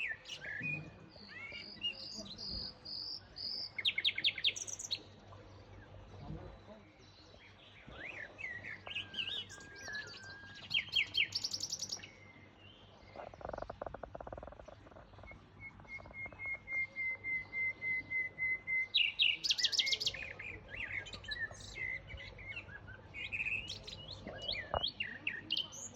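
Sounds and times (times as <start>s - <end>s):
wild birds singing: 0.0s - 25.9s.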